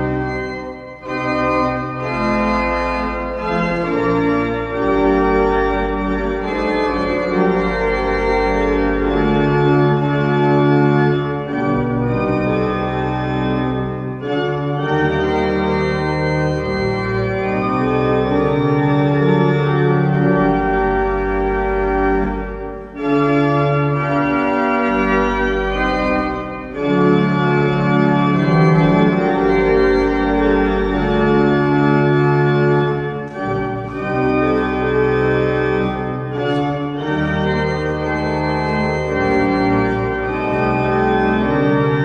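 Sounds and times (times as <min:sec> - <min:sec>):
church organ chords: 0:00.0 - 0:42.0.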